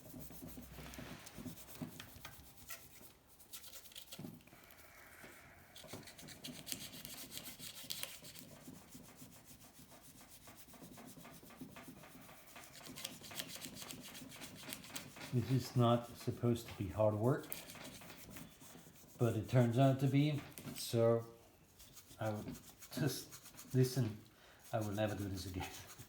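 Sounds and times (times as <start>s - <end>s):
toothbrush scrubbing metal: 0.0s - 26.0s.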